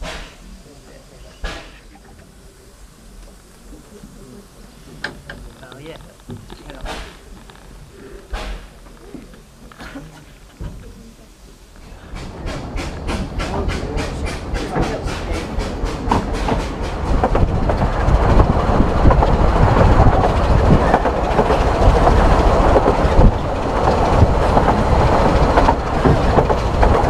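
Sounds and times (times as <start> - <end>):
steam engine beat: 0.0 - 5.4, 6.3 - 27.0
steam train rumbling: 0.0 - 27.0
wheels clattering on track: 0.0 - 27.0.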